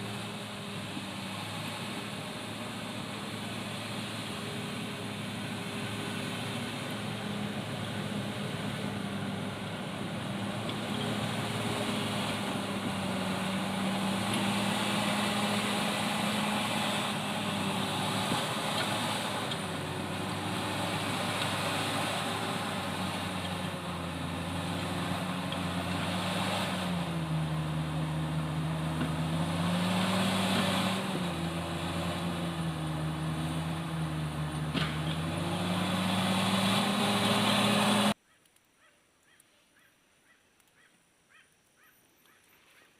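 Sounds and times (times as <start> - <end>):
bulldozer diesel engine running: 0.0 - 38.2.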